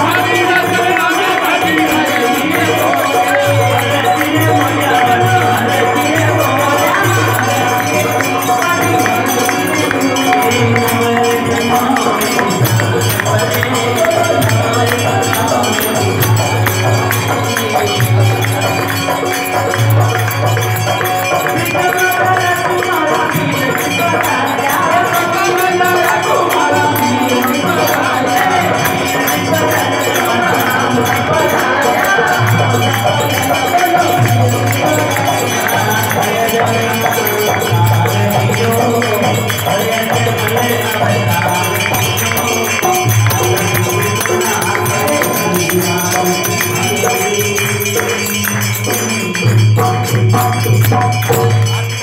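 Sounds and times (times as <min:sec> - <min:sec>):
devotional melody: 0:00.0 - 0:52.0
jingling percussion: 0:00.0 - 0:52.0.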